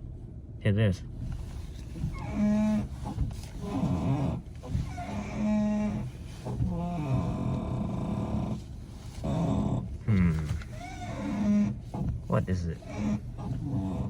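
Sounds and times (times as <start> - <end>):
car steering groaning: 1.2 - 14.0.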